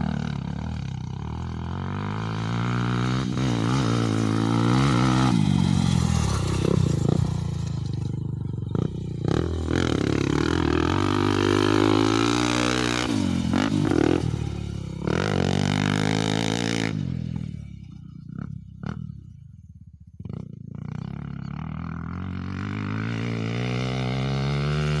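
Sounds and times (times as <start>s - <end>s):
motocross bike engine revving: 0.0s - 17.7s, 20.3s - 25.0s.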